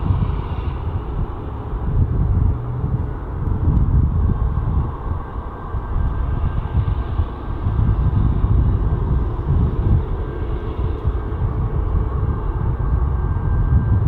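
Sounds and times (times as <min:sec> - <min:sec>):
distant jet engines rumbling: 0:00.0 - 0:14.0.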